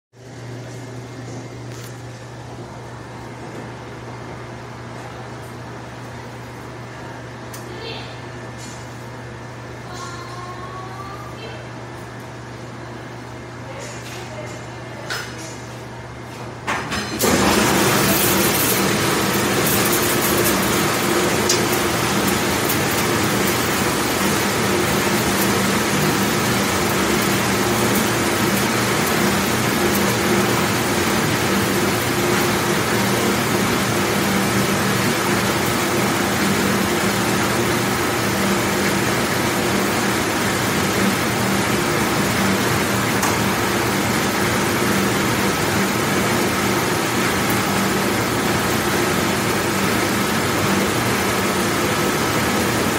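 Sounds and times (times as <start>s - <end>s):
dishwashing machine running: 0.1s - 52.9s.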